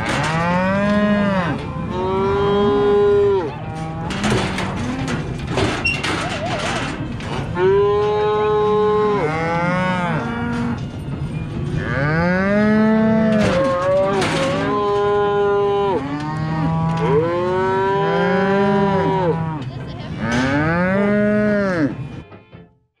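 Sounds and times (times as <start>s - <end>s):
cattle mooing: 0.0s - 5.4s, 7.5s - 10.9s, 11.7s - 22.0s.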